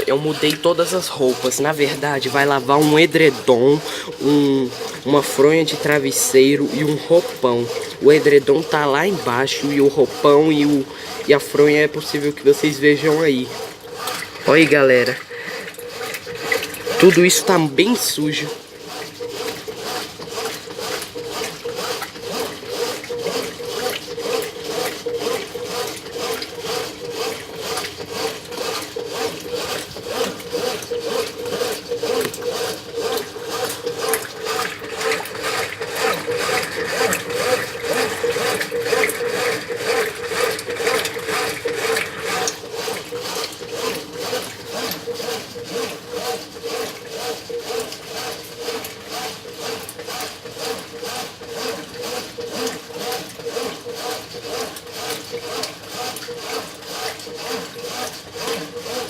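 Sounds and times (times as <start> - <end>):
washing machine churning: 0.0 - 59.0.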